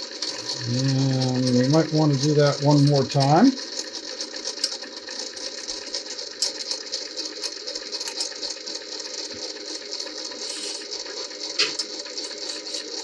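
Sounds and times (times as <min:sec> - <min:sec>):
steady mechanical running noise: 0:00.0 - 0:13.0.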